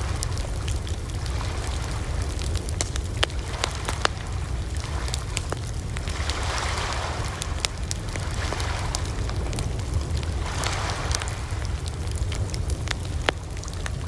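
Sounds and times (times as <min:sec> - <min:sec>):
steady low rumble: 0:00.0 - 0:14.0
wood fire crackling: 0:00.0 - 0:14.0.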